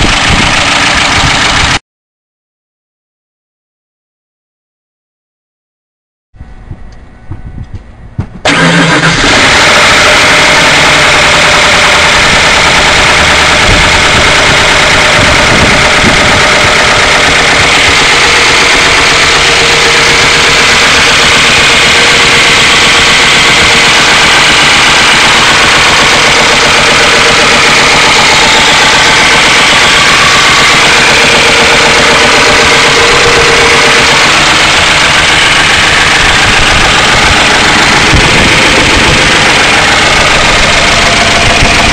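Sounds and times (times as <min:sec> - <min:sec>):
loud car engine running: 0:00.0 - 0:01.8, 0:06.4 - 0:41.9.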